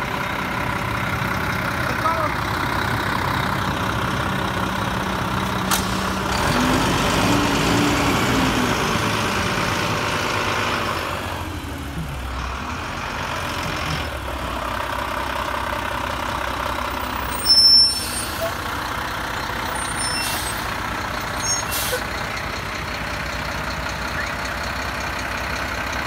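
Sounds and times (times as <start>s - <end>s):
diesel engine idling and revving: 0.0s - 26.0s.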